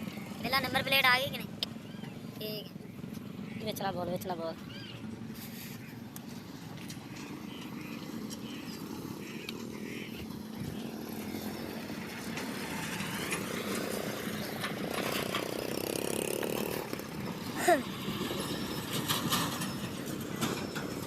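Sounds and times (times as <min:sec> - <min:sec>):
traffic noise: 0:00.0 - 0:21.0
vehicle engine running: 0:00.0 - 0:21.0.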